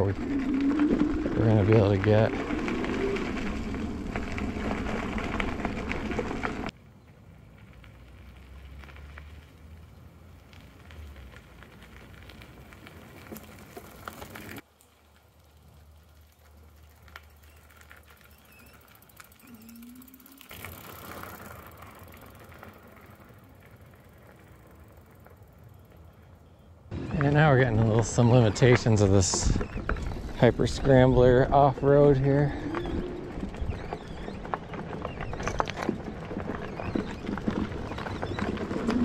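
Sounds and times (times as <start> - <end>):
bike tyre and frame noise: 0.0 - 39.0.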